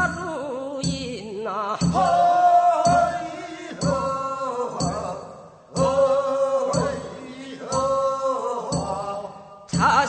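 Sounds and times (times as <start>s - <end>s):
struck beat: 1.8s - 10.0s.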